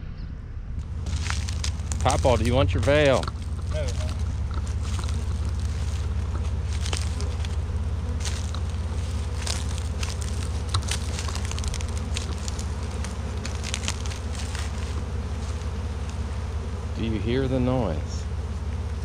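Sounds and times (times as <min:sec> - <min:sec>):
sharp crackles and clicks: 0:00.7 - 0:16.3
bee swarm buzzing: 0:00.8 - 0:19.0.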